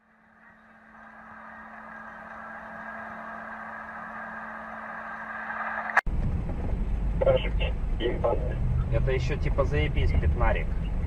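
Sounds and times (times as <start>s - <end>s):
low hum: 0.0s - 11.0s
vehicle running noise: 0.0s - 11.0s.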